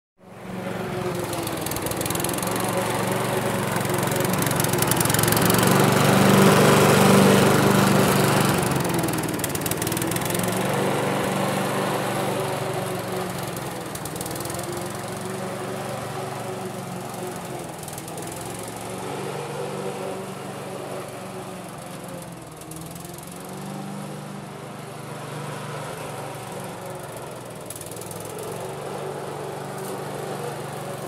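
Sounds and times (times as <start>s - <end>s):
lawnmower engine running: 0.2s - 31.0s.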